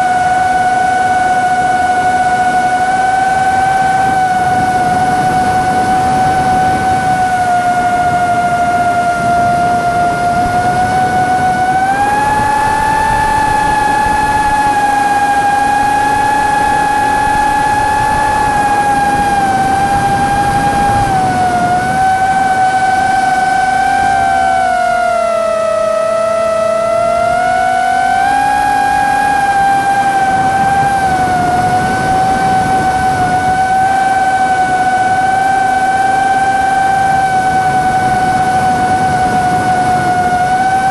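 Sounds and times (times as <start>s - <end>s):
motor whining over rumble: 0.0s - 40.9s.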